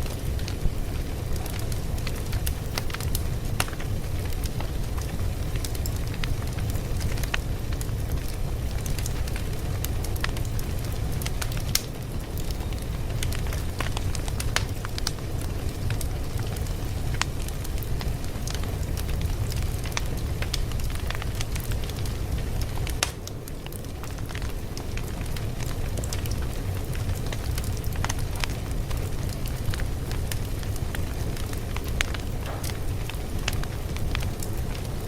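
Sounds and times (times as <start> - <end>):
fire crackling: 0.0 - 35.0.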